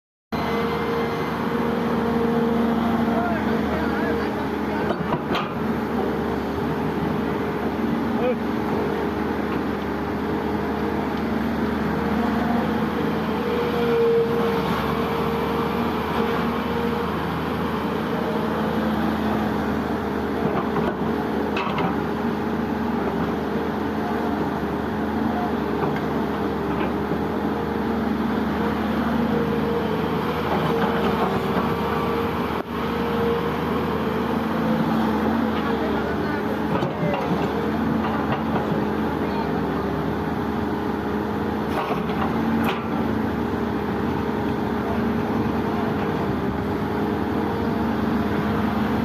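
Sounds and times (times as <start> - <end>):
heavy diesel engine droning: 0.3 - 49.0.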